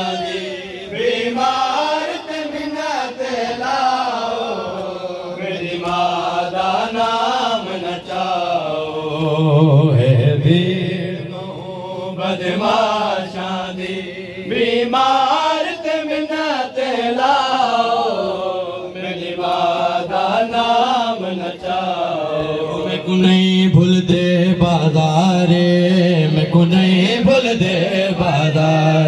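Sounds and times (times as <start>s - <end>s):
man chanting a lament through microphone: 0.0s - 19.3s, 19.9s - 29.0s.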